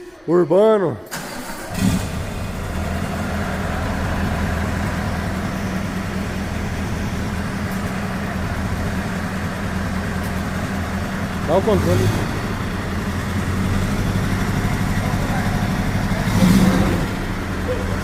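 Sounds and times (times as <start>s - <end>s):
truck engine idling: 1.0s - 18.0s.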